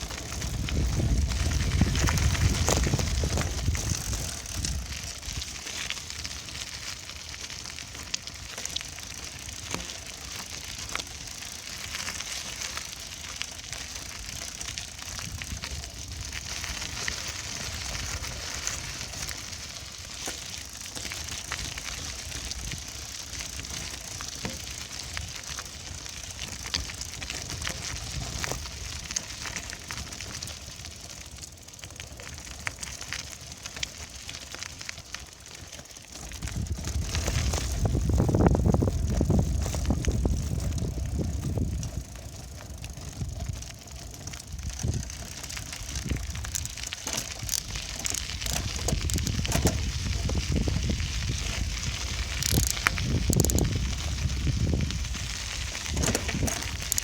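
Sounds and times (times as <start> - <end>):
bicycle tyres crunching on path: 0.0 - 57.0.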